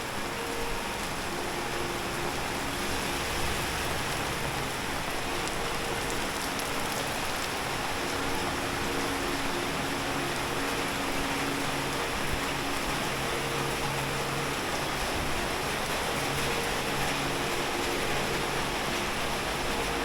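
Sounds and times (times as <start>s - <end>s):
rain on a street: 0.0s - 20.0s.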